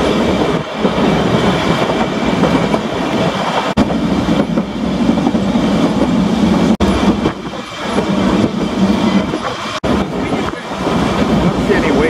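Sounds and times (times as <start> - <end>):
tram wheels on rails: 0.0 - 12.0.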